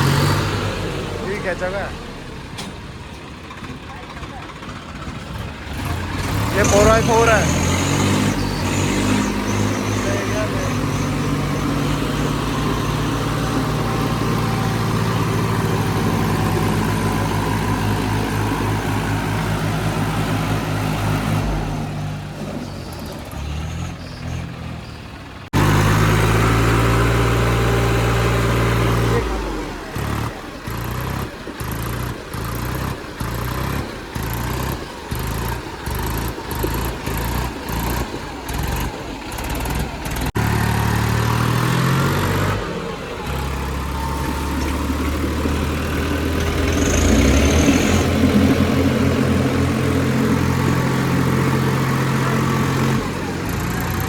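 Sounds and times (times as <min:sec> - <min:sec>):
tractor diesel engines under load: 0:00.0 - 0:54.0.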